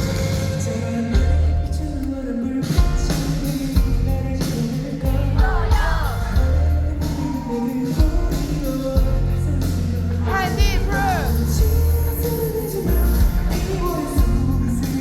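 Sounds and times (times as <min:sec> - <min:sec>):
pop-rock band playing: 0:00.0 - 0:15.0.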